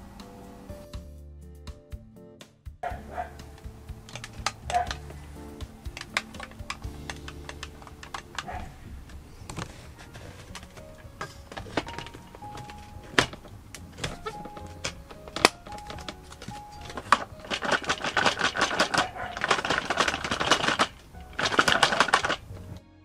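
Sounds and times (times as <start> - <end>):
light background music: 0.0 - 23.0
sharp clicks and rattling: 3.5 - 22.5.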